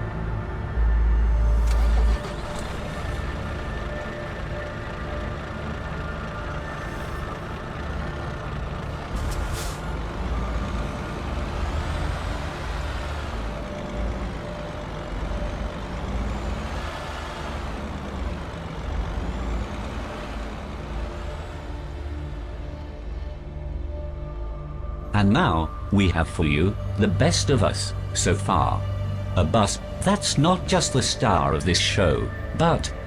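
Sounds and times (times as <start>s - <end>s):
diesel bus engine running: 0.0s - 33.0s.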